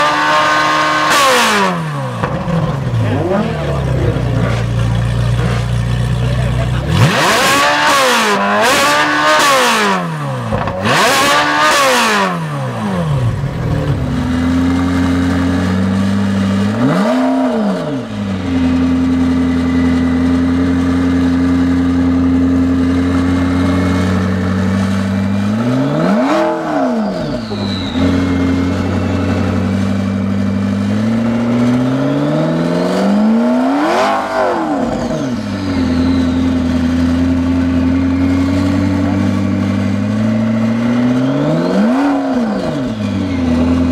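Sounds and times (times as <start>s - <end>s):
car engine revving and idling: 0.0s - 43.9s.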